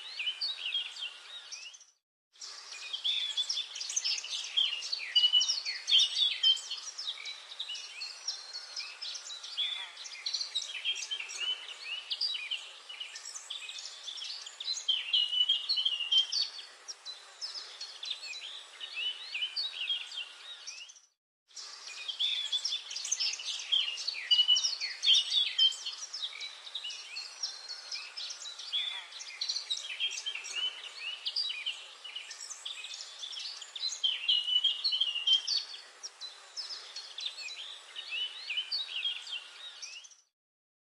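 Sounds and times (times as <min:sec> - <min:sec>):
songbirds chirping and singing: 0:00.0 - 0:40.3.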